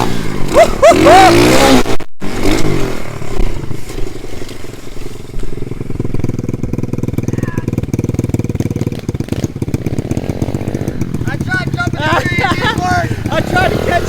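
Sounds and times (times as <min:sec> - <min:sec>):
pit bike engine running: 0:00.0 - 0:14.0.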